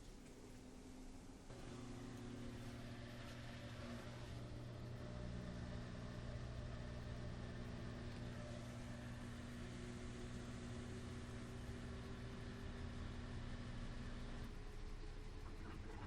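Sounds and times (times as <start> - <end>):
washer-dryer motor hum: 0.0 - 16.0.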